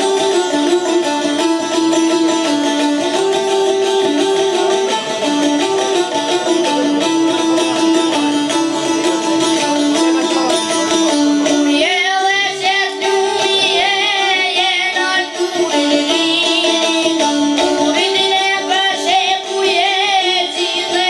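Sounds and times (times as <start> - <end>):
plucked lutes playing folk melody: 0.0 - 21.0
boy singing: 4.1 - 21.0.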